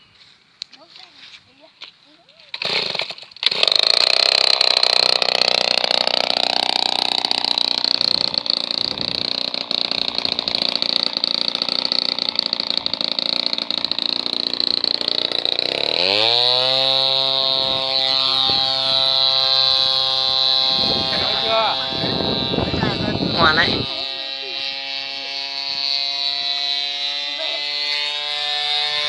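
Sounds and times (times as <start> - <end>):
two-stroke aircraft engine running: 0.0 - 29.0.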